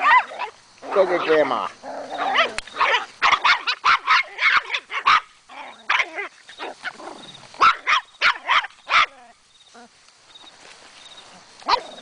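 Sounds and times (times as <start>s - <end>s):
small dogs barking: 0.0s - 10.0s, 11.2s - 12.0s.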